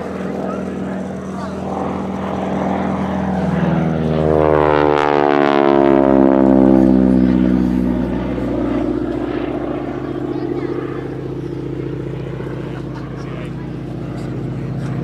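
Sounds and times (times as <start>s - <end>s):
propeller plane engine passing: 0.0s - 15.0s.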